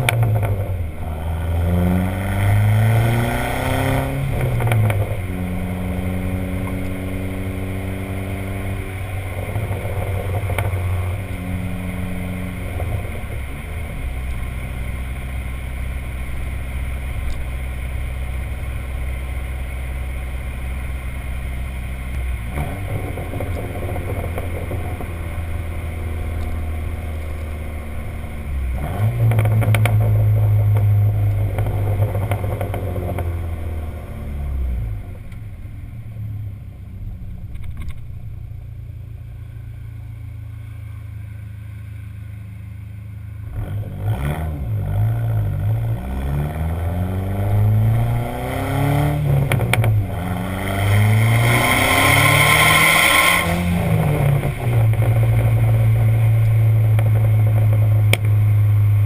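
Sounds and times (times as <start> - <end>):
car engine revving: 0.0 - 59.0
exhaust crackles and pops: 0.0 - 59.0.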